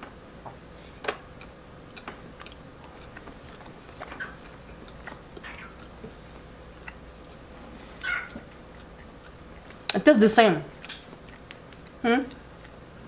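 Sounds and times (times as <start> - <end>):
faint steady hum: 0.0 - 13.0
chewing and mouth smacks: 0.9 - 10.0, 10.7 - 13.0.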